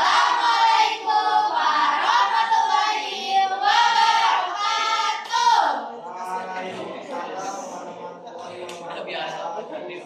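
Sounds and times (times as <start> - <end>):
voices singing together: 0.0 - 8.6.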